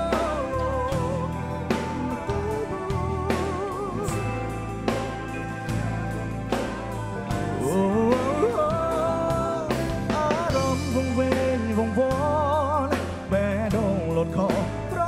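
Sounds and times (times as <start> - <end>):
man singing: 0.0 - 6.2, 7.2 - 15.0
acoustic and electric guitars: 0.0 - 15.0
drum kit beat: 0.0 - 15.0
electric bass: 0.0 - 15.0.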